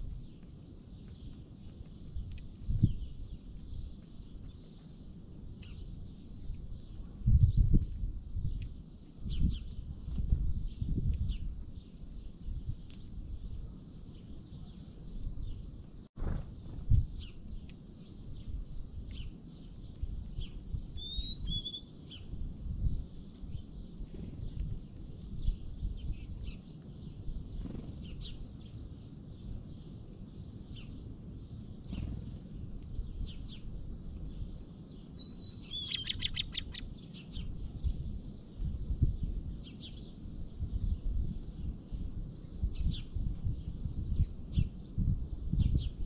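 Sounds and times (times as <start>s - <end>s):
songbirds chirping and trilling: 0.0s - 46.0s.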